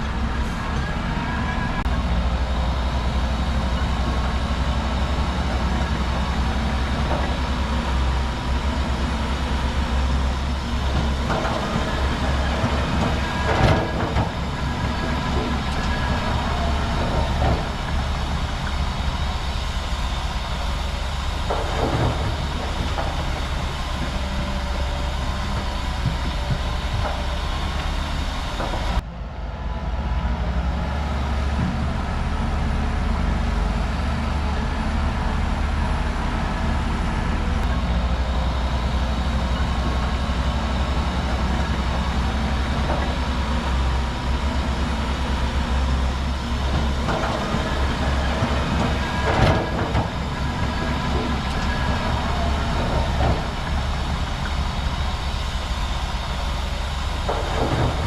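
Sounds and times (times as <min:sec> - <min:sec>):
diesel engine running: 0:00.0 - 0:58.0
steel tracks clanking: 0:00.0 - 0:58.0.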